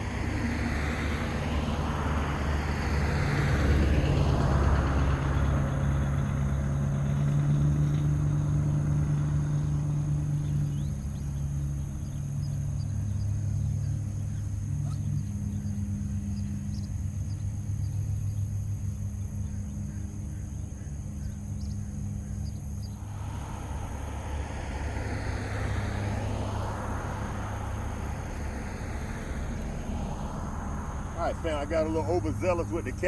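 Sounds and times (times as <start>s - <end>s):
car passing with tyre noise: 0.0s - 33.0s
low traffic hum: 0.0s - 33.0s.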